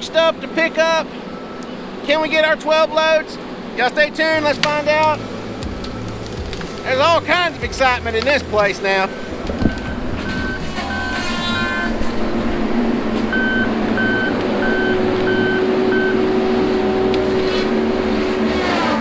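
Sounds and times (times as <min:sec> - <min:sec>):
back-up alarm beeping: 0:00.0 - 0:17.2
diesel engine running: 0:00.0 - 0:19.0.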